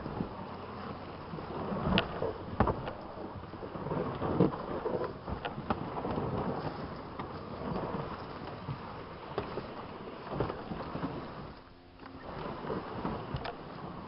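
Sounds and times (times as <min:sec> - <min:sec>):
kayak hull scraping down slope: 0:00.0 - 0:14.0.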